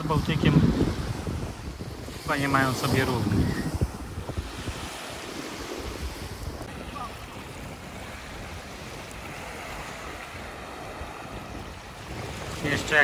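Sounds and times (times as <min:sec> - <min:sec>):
small waves on sandy beach: 0:00.0 - 0:13.0
wind buffeting microphone: 0:00.0 - 0:13.0.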